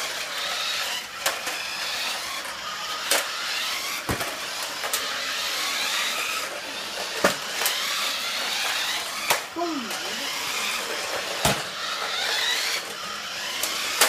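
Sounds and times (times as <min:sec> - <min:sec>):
toy car motors whirring: 0:00.0 - 0:14.0.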